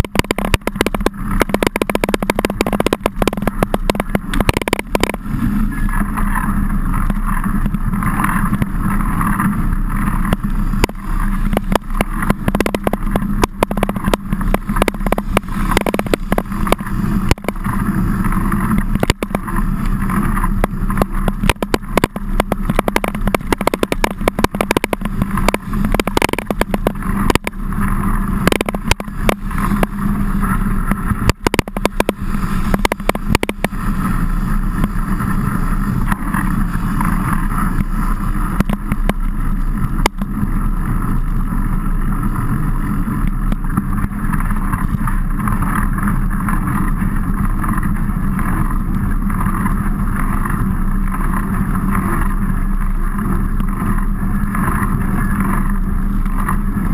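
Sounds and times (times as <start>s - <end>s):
bike knocks and rattles: 0.0s - 56.9s
wind and tyres rumbling: 0.0s - 56.9s.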